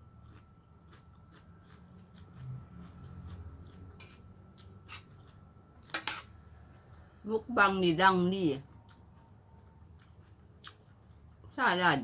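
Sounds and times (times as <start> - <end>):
person chewing raw vegetables: 0.0 - 6.8, 8.7 - 11.6.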